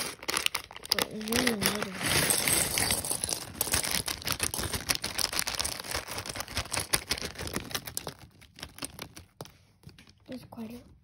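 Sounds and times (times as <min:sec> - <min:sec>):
plastic bag crinkling: 0:00.0 - 0:09.4
plastic pieces clicking: 0:00.0 - 0:10.2.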